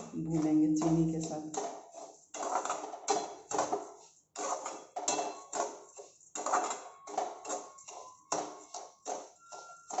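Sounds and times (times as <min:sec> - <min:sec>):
spatula scraping a steel pan: 0:00.0 - 0:10.0.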